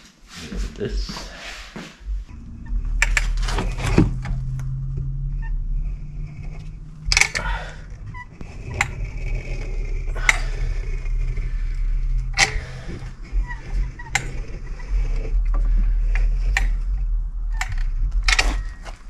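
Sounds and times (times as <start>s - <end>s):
low hum: 0.3s - 19.0s.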